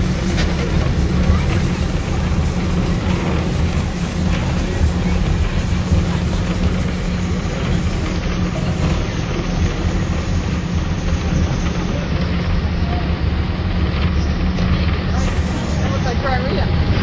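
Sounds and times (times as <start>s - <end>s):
train carriage rumbling on track: 0.0s - 17.0s.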